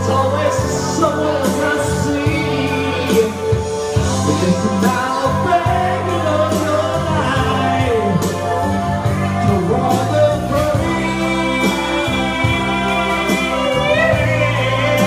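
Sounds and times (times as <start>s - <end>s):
karaoke backing track: 0.0s - 15.0s
man singing into a microphone: 0.0s - 15.0s.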